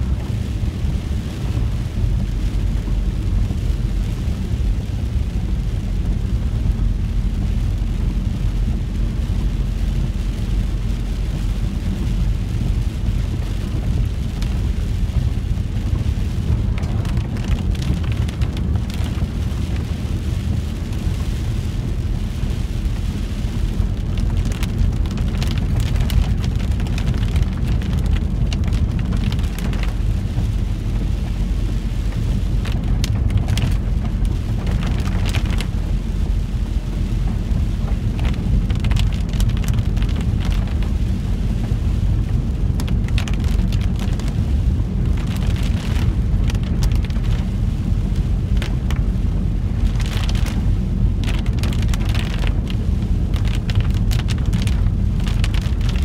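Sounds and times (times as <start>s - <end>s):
engine and tyres on wet road: 0.0s - 56.0s
raindrops ticking on windscreen: 0.0s - 56.0s.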